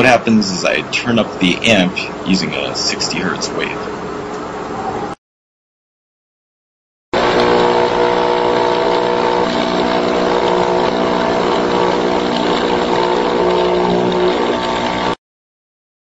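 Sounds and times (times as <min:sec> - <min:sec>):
loudspeaker buzzing hum: 0:00.0 - 0:05.2, 0:07.2 - 0:15.2.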